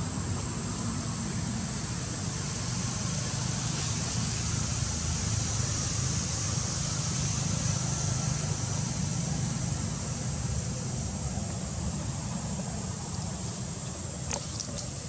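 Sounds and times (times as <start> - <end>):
constant high-pitched hiss: 0.0 - 15.0.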